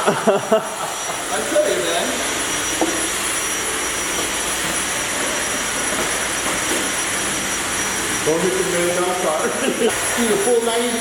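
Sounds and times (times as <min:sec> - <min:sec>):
stick vacuum running: 0:00.0 - 0:11.0.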